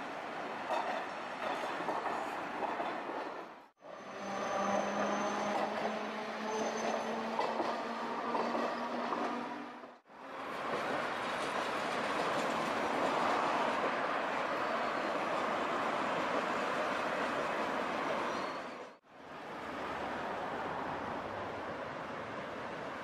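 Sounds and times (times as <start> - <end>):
street noise: 0.0 - 23.0
tram running on tracks: 0.0 - 23.0.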